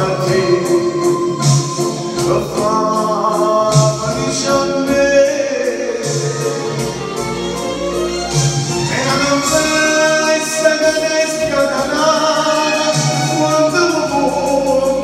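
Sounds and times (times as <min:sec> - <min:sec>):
man singing into a microphone: 0:00.0 - 0:07.4, 0:08.8 - 0:15.0
bass: 0:00.0 - 0:15.0
keyboard chords: 0:00.0 - 0:15.0
steady drum beat: 0:00.0 - 0:15.0.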